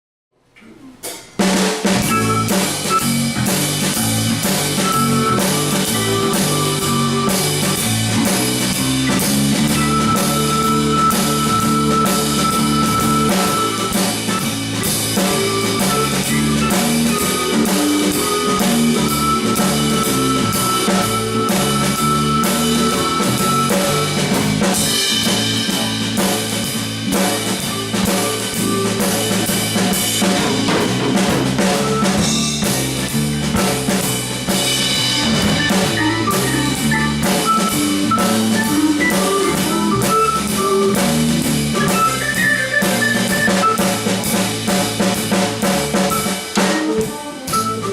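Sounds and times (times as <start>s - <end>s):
drum kit: 0.5s - 47.9s
bass guitar: 0.8s - 47.9s
organ: 1.9s - 47.9s.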